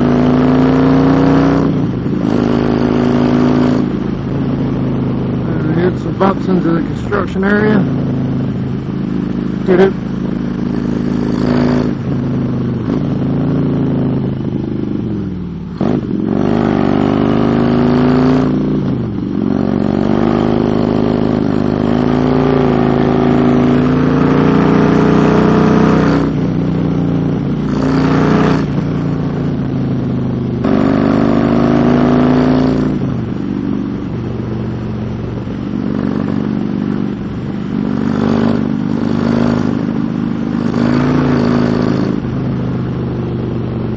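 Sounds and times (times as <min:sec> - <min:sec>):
motorcycle engine revving: 0:00.0 - 0:43.9
road and wind noise: 0:00.0 - 0:43.9.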